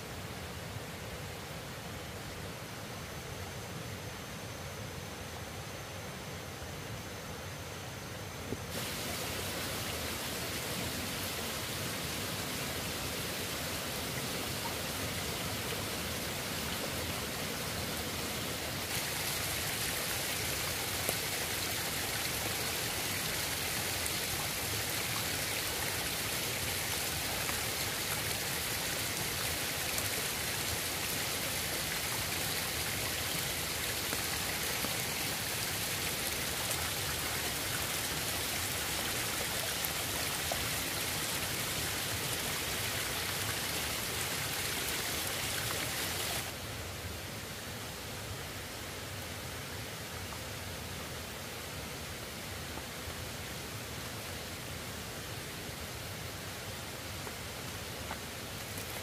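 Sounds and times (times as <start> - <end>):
water rushing: 8.7 - 47.4, 48.2 - 59.0.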